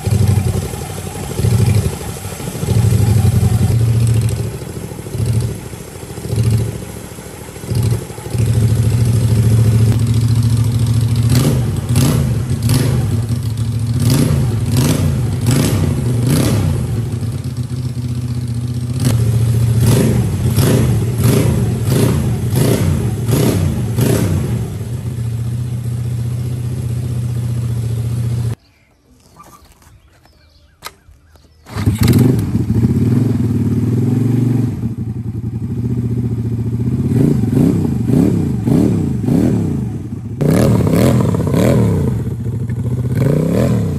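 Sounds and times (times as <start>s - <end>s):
engine running through open exhaust: 0.0s - 28.7s, 31.0s - 43.9s.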